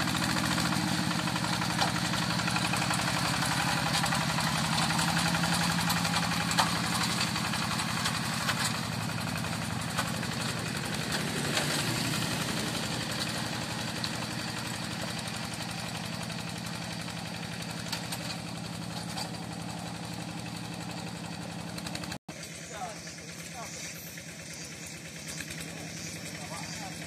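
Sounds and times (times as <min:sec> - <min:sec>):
diesel engine putter: 0:00.0 - 0:27.0.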